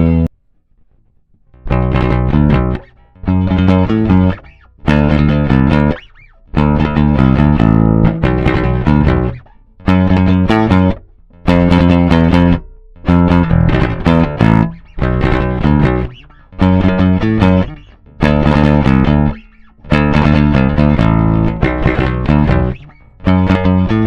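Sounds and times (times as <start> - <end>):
electric bass riffs: 0.0 - 24.0.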